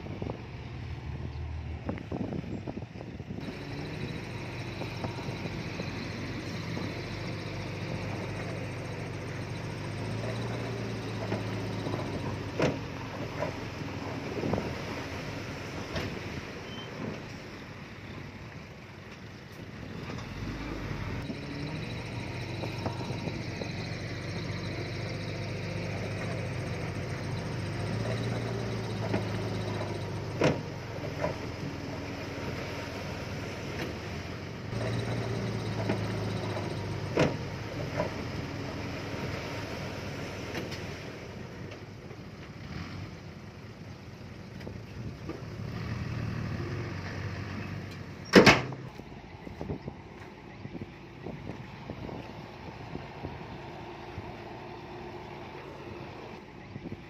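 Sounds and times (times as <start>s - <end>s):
diesel machinery engine working: 0.0s - 57.0s.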